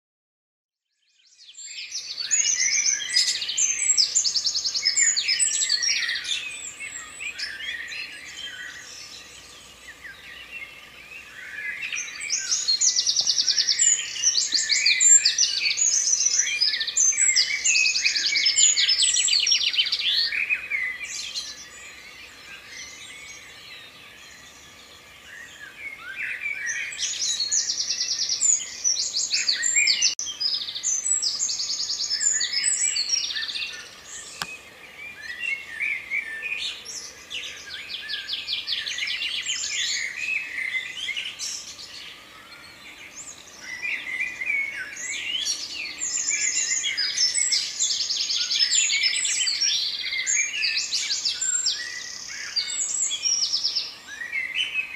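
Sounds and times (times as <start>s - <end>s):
songbirds chirping and trilling: 0.9s - 54.9s.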